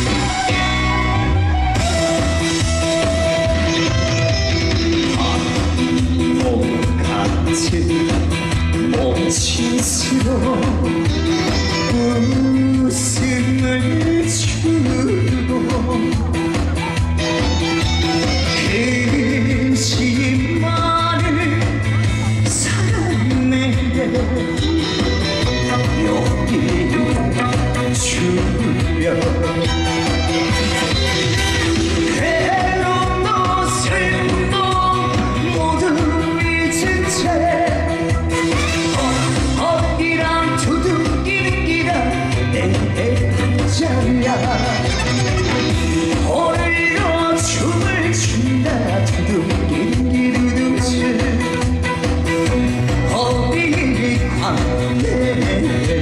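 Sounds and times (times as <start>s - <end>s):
live band music over pa: 0.0s - 56.0s
person singing: 0.0s - 56.0s.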